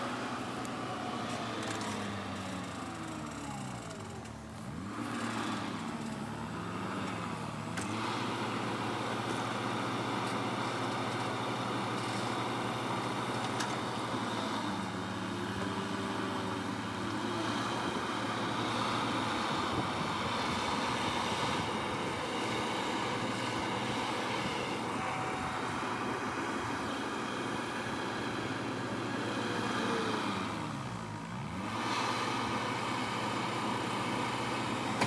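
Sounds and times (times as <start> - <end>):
heavy diesel engines droning: 0.0 - 35.0.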